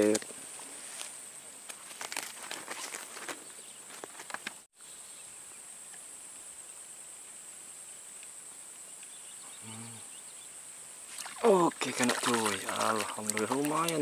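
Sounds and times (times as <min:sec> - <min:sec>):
insect chorus buzzing: 0:00.0 - 0:14.0
swamp ambience: 0:00.0 - 0:14.0.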